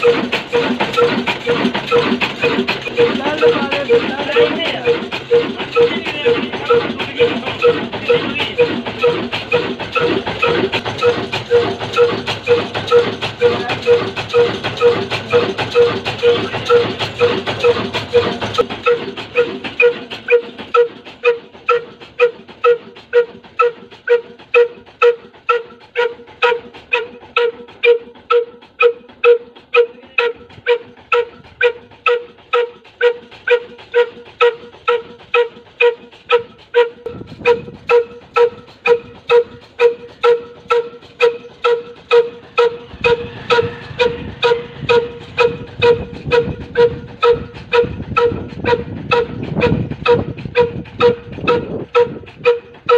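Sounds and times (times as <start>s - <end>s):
diesel engine exhaust beat: 0.0s - 52.9s.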